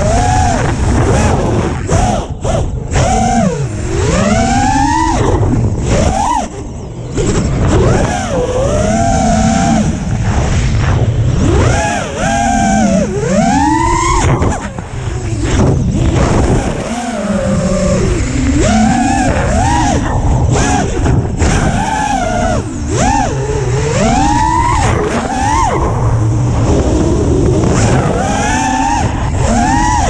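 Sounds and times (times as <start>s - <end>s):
steady low rumble: 0.0s - 24.6s, 25.8s - 28.2s
drone motors whining: 0.0s - 30.0s.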